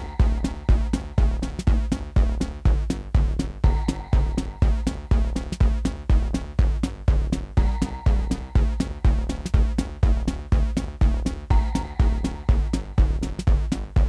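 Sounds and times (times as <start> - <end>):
repeating synth pattern: 0.0 - 2.6, 3.7 - 6.5, 7.6 - 13.4
heavy bass line: 0.0 - 14.0
hi-hat ticks: 0.0 - 14.0
kick drum beat: 0.0 - 14.0.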